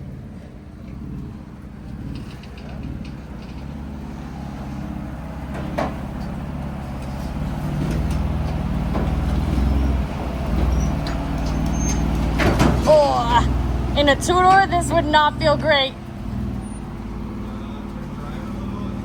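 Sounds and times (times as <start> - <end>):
car engine running at low speed: 0.0 - 19.0
vehicle knocks and clicks: 0.1 - 19.0.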